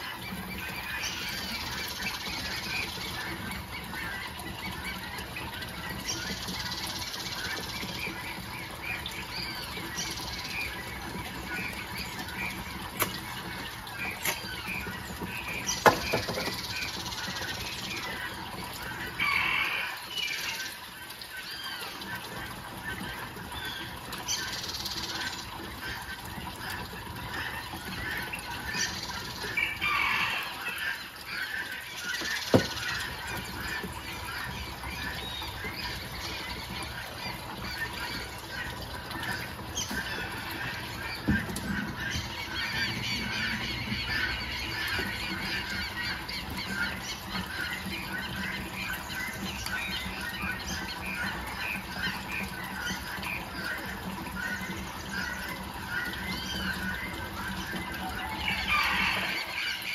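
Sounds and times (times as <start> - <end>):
birds calling and squawking: 0.0 - 59.9.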